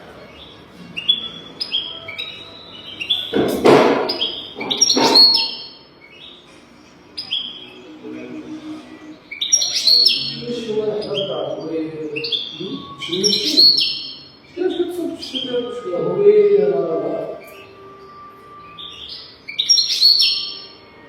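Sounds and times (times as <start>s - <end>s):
goldfinch twittering song: 0.3s - 8.0s, 9.1s - 16.6s, 17.2s - 20.9s.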